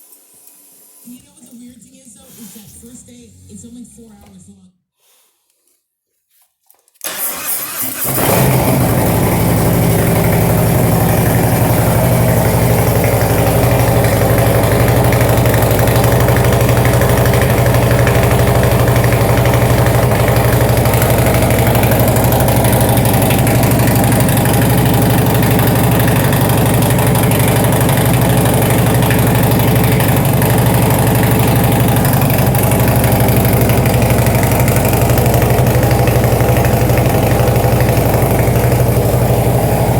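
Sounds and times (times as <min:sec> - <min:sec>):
motorcycle starting and idling: 0:07.0 - 0:39.9.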